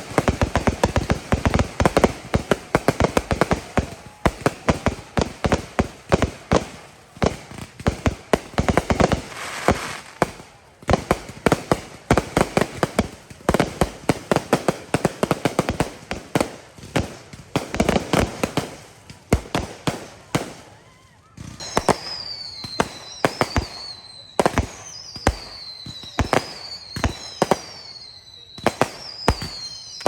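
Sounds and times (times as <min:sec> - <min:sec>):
fireworks banging: 0:00.0 - 0:20.6, 0:21.4 - 0:27.9, 0:28.5 - 0:30.0.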